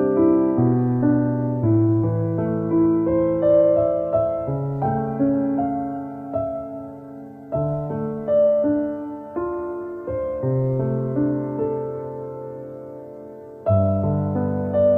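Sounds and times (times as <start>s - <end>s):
slow gentle piano music: 0.0s - 14.9s.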